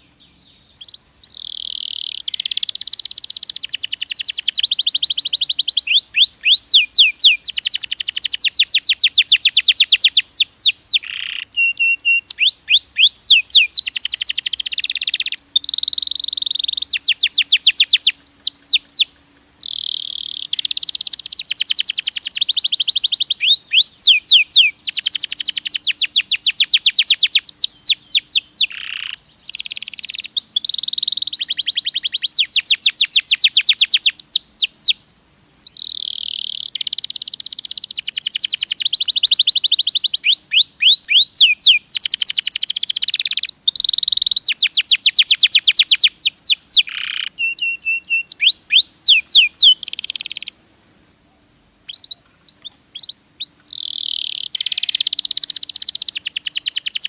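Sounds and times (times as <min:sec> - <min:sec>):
canary singing fast trills: 0:00.0 - 0:35.0, 0:35.6 - 0:50.6, 0:51.8 - 0:57.0.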